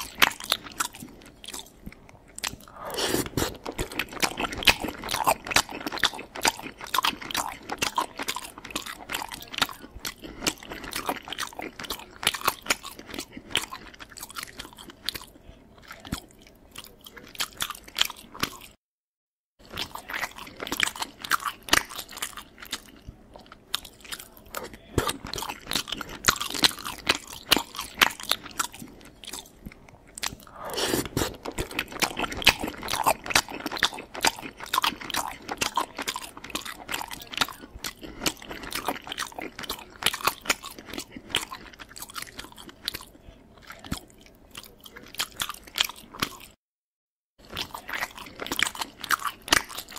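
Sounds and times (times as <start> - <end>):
close chewing of pasta: 0.0 - 18.8, 19.6 - 46.6, 47.4 - 49.9.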